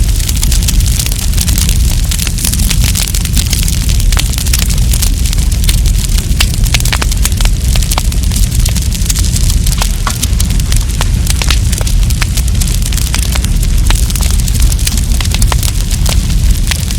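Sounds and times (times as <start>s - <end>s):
campfire crackling: 0.0s - 16.9s
low fire rumble: 0.0s - 16.9s.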